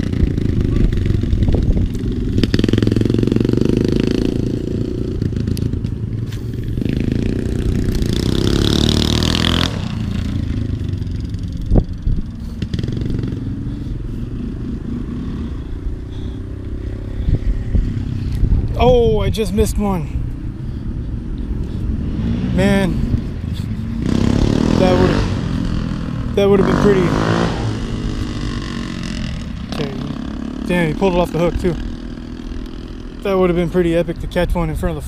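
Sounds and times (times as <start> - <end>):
quad bike engines revving: 0.0 - 35.0.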